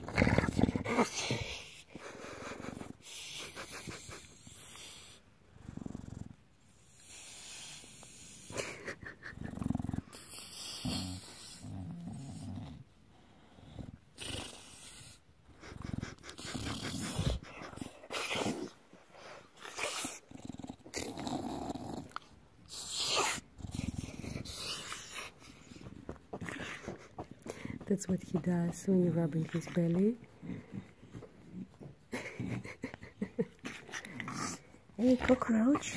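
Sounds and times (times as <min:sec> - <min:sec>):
dog making low throaty noises: 0:00.0 - 0:06.4, 0:07.8 - 0:35.9.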